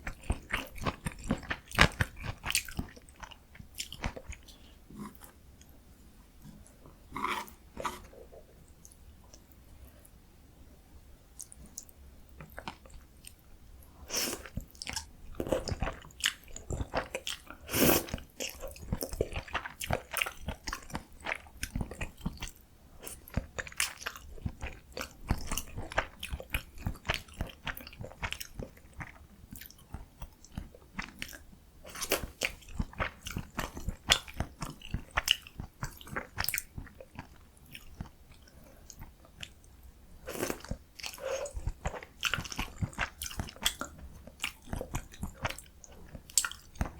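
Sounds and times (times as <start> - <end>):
person chewing noodles: 0.0 - 5.4, 14.0 - 46.9.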